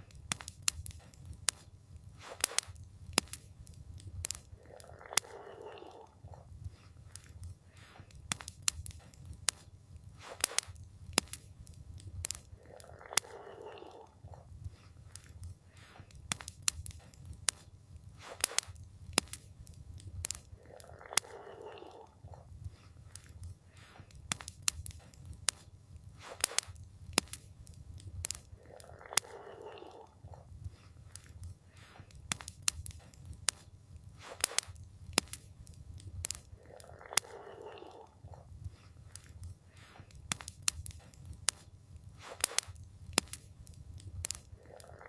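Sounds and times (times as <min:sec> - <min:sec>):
campfire crackling and popping: 0:00.0 - 0:45.0
low rumble of fire: 0:00.0 - 0:45.0.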